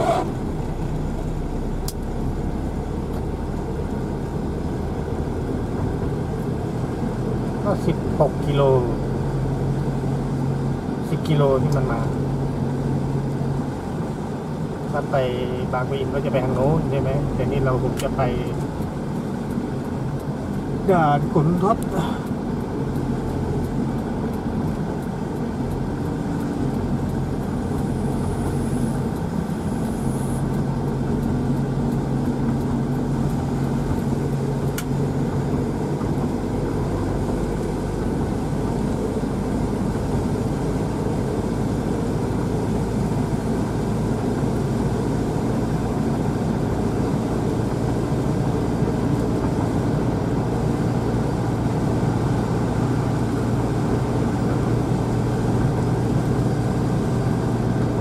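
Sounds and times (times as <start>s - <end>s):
car engine hum: 0.0s - 58.0s
tyre and road noise: 0.0s - 58.0s.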